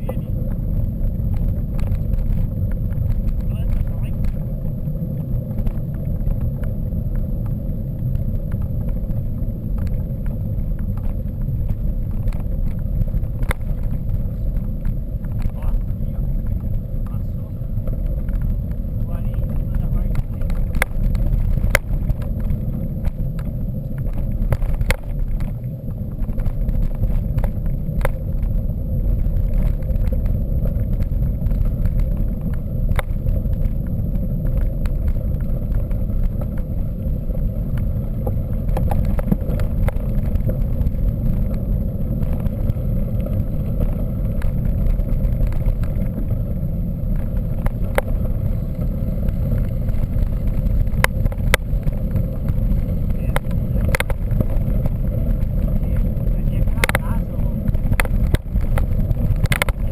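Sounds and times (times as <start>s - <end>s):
bike clicks and rattles: 0.0s - 59.9s
bike tyre rumble: 0.0s - 59.9s
wind: 0.0s - 59.9s.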